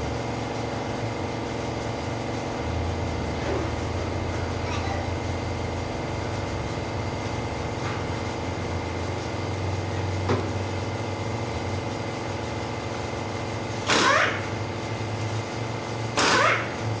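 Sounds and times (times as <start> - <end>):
diesel engine idling: 0.0 - 16.2.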